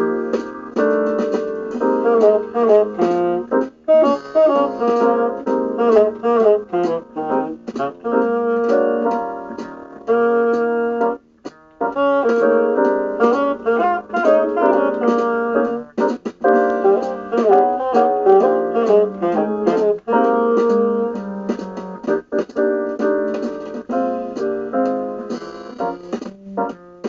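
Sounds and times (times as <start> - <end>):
bassoon playing blues: 0.0 - 27.0
guitar accompaniment: 0.0 - 27.0
piano accompaniment: 0.0 - 27.0.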